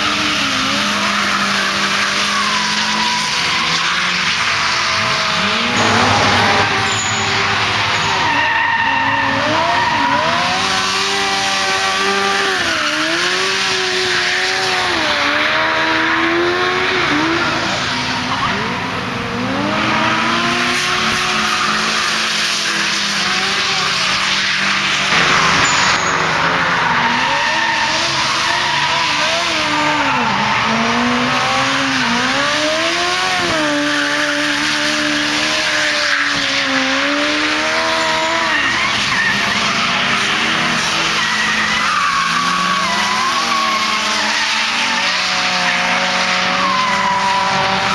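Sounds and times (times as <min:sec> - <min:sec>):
car engines revving: 0:00.0 - 0:47.9
tyres squealing on asphalt: 0:00.0 - 0:47.9.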